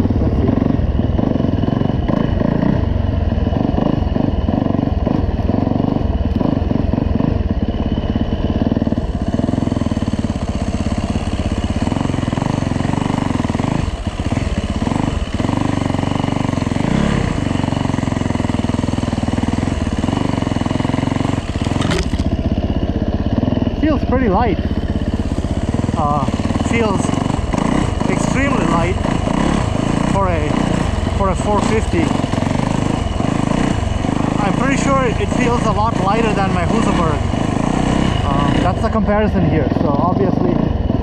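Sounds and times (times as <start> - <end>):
motorcycle engine at low revs: 0.0 - 41.0.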